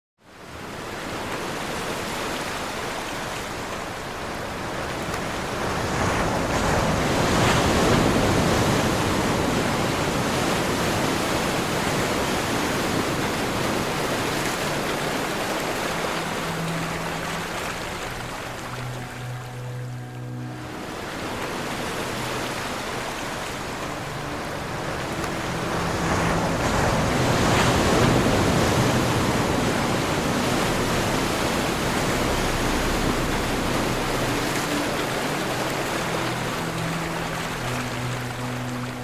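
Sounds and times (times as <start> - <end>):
ocean wave washing: 0.4 - 39.0.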